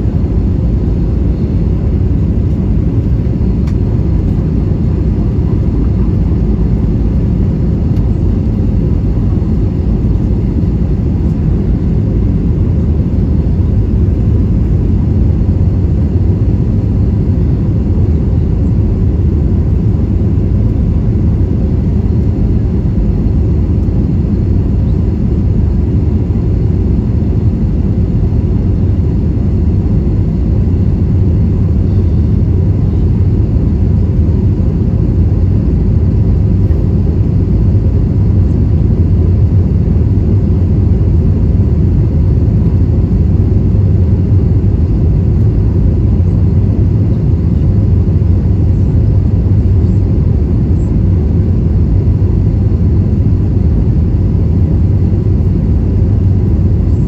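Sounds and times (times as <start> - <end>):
airplane cabin drone: 0.0 - 57.0
faint steady whines: 0.0 - 57.0.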